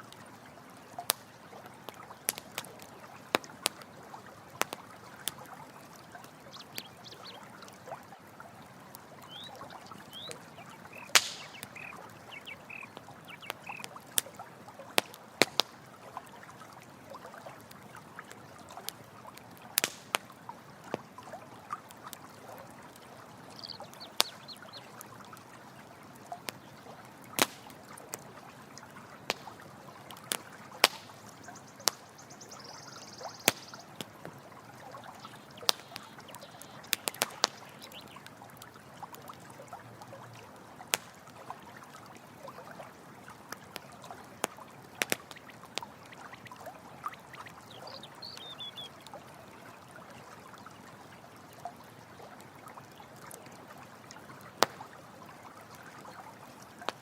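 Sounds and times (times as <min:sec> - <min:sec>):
campfire crackling: 0:00.0 - 0:49.9, 0:51.6 - 0:57.0
running water: 0:00.0 - 0:57.0.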